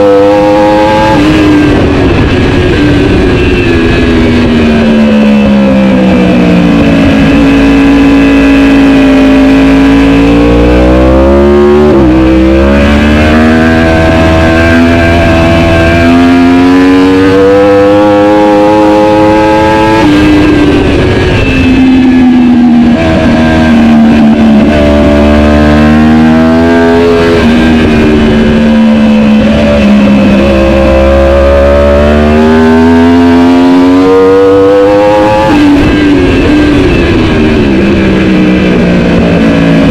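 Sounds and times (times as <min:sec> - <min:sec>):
racing motorcycle engine accelerating: 0:00.0 - 0:39.9.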